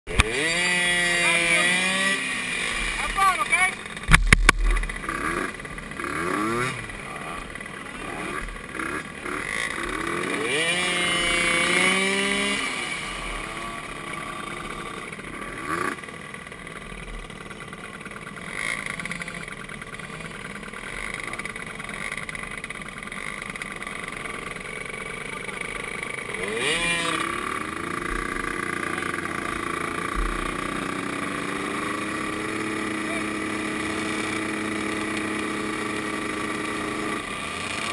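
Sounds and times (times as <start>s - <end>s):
small atv engines revving: 0.1s - 37.9s.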